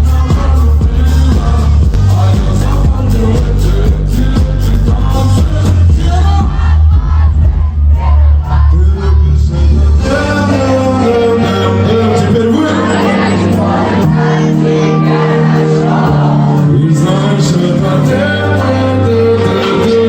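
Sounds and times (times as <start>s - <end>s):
crowd noise: 0.0s - 20.0s
live concert music over pa: 0.0s - 20.0s
person singing or rapping: 0.0s - 20.0s.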